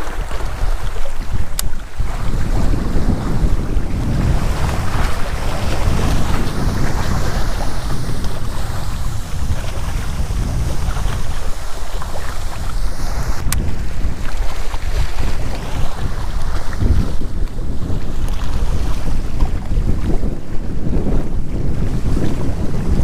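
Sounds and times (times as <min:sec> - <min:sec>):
choppy water splashing at shore: 0:00.0 - 0:23.0
strong wind buffeting microphone: 0:00.0 - 0:23.0.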